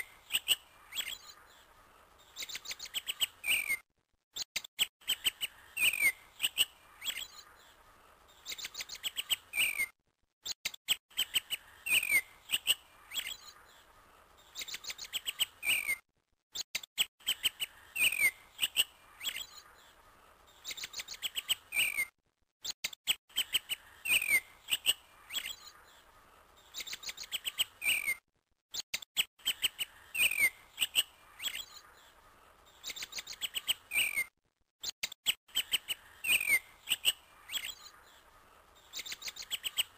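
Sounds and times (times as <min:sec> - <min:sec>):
birds chirping: 0:00.0 - 0:03.8, 0:04.4 - 0:39.9.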